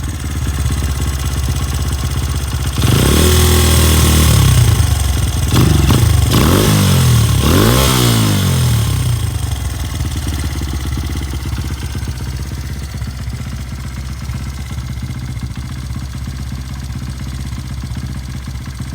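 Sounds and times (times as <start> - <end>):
motorcycle engine revving and idling: 0.0 - 18.9.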